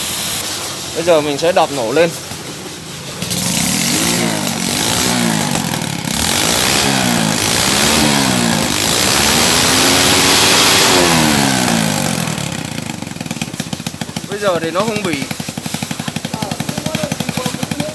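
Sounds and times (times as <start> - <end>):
motorbike engine revving: 0.0 - 17.9.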